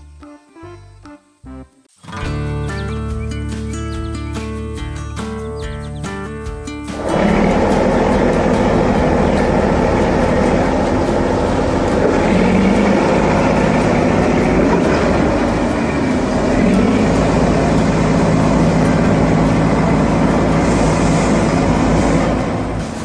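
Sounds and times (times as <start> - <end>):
heavy machinery engine droning: 2.5 - 23.0.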